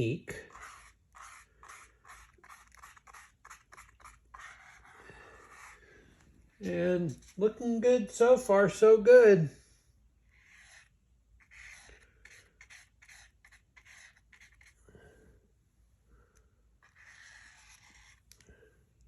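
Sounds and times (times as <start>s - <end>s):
paintbrush strokes: 0.0s - 8.3s, 9.6s - 15.2s, 16.2s - 18.7s.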